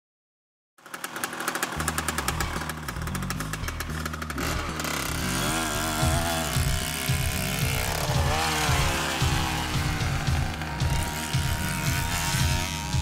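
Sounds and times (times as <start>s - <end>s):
wavering buzzing synth lead: 1.8s - 13.0s
electronic music with deep bass: 2.3s - 13.0s.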